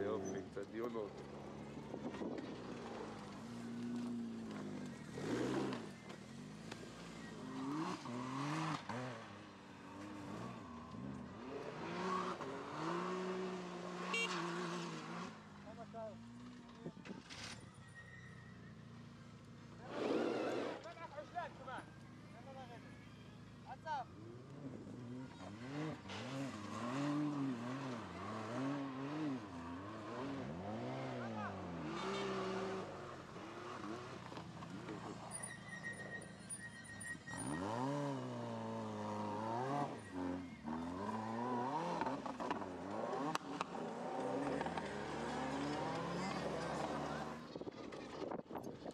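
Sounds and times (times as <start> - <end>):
wind: 0.0 - 48.9.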